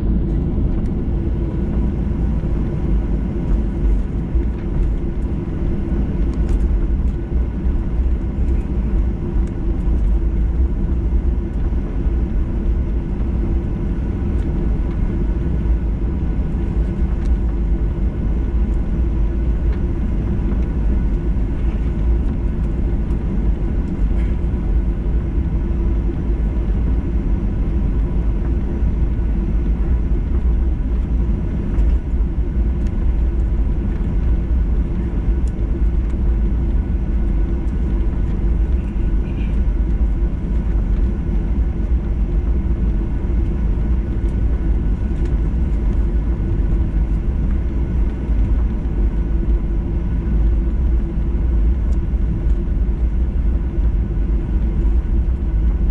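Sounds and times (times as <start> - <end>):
faint steady hum: 0.0 - 55.9
jet engine cabin rumble: 0.0 - 55.9.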